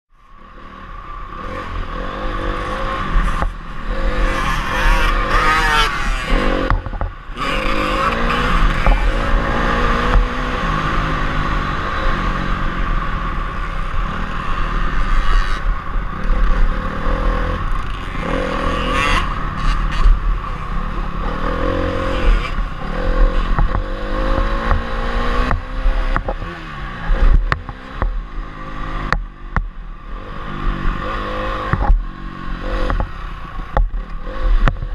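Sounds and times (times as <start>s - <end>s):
motorcycle engine revving: 0.3s - 34.9s.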